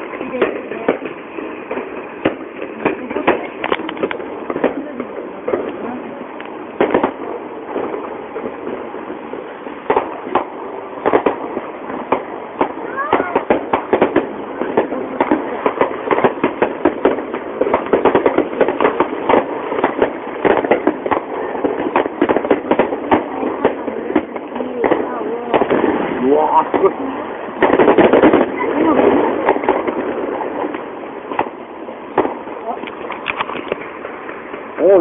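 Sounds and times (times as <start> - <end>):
firework shells bursting: 0.0 - 35.0.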